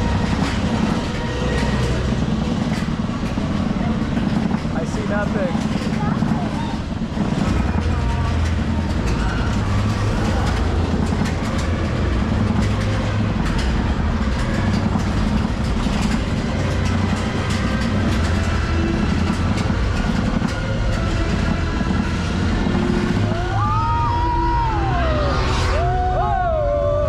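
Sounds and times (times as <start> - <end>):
roller coaster rumbling on track: 0.0 - 27.0.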